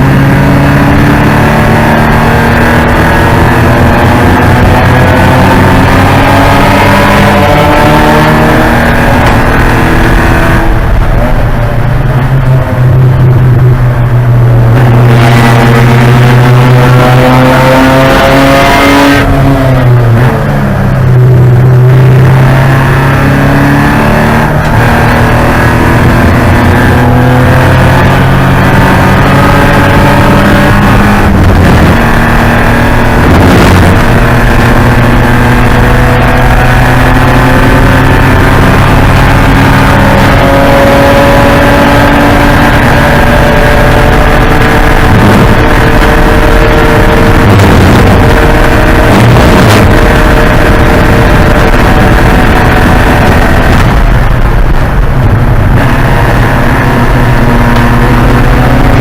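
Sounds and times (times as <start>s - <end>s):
race car engine shifting gears: 0.0s - 59.0s.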